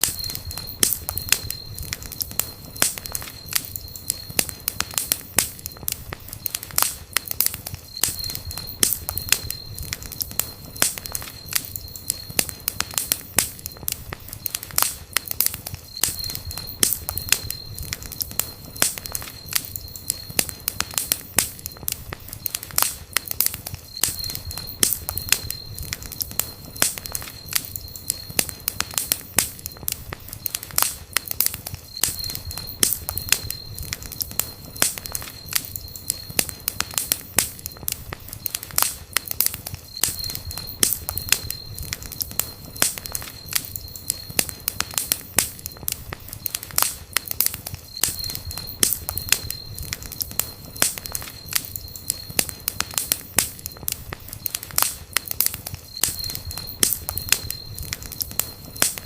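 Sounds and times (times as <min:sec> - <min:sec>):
campfire crackling: 0:00.0 - 0:59.0
fire popping and snapping: 0:00.0 - 0:59.0.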